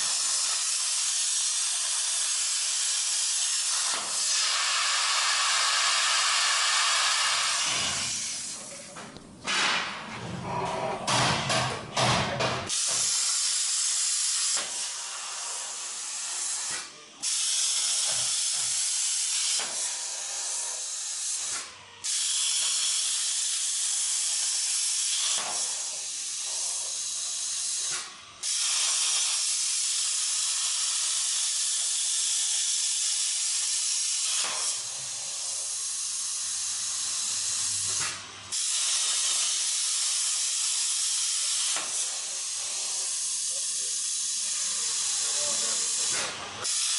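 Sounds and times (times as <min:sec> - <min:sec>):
plasma cutter hissing: 0:00.0 - 0:10.1, 0:11.0 - 0:46.9.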